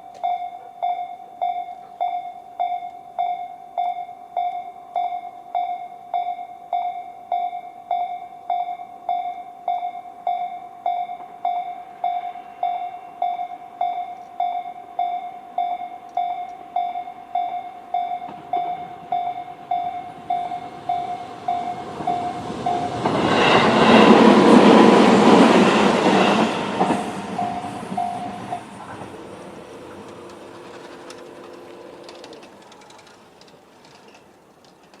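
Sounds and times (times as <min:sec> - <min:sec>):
level crossing warning bells: 0:00.0 - 0:33.5
electric train passing: 0:00.0 - 0:35.0.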